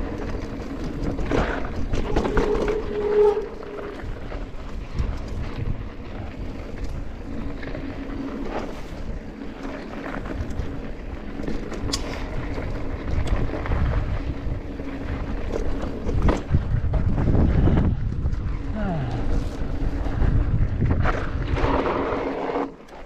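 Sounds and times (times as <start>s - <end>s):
wind buffeting microphone: 0.0s - 22.6s
bike clicks and rattles: 0.0s - 23.0s.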